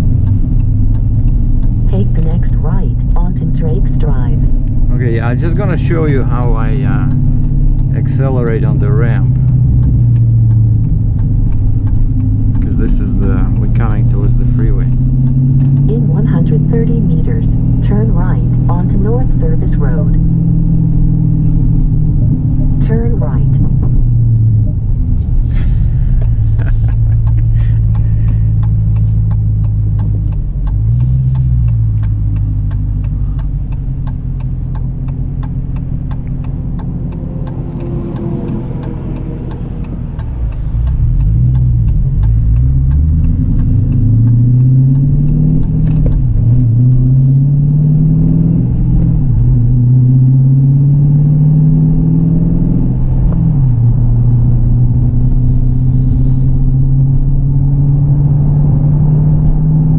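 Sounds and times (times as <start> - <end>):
steady ticking: 0.0 - 51.5
car engine revving hard: 0.0 - 59.9.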